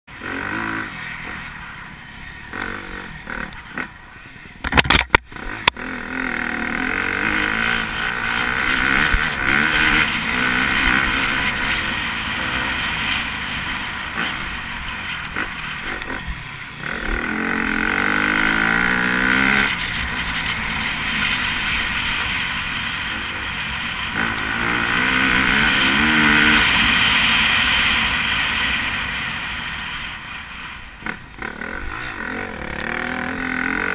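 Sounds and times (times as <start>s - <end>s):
dirt bike engine racing: 0.1s - 33.9s.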